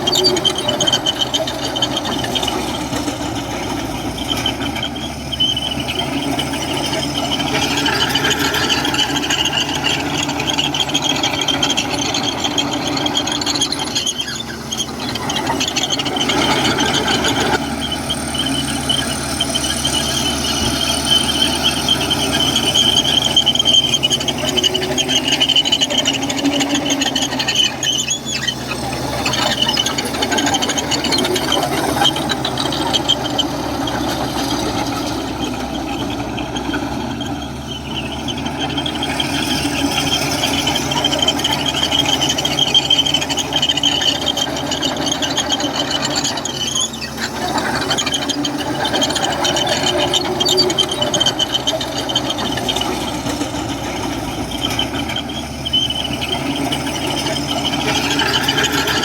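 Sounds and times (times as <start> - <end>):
bulldozer engine running: 0.0 - 59.0
high-pitched squeal: 0.0 - 59.0.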